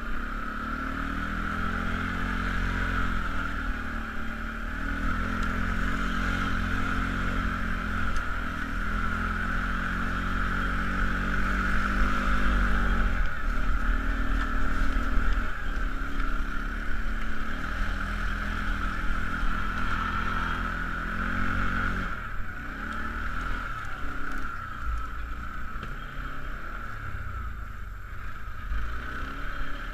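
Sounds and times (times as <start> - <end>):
atv engine running: 0.0 - 29.9.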